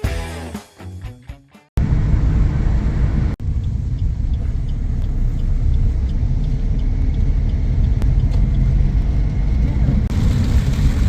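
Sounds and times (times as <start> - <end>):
moving road vehicle rumble: 1.8 - 11.0.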